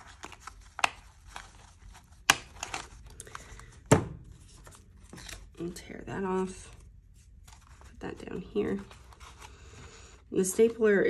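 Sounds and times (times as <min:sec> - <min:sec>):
paper rustling and crinkling: 0:00.0 - 0:05.8, 0:06.4 - 0:10.8.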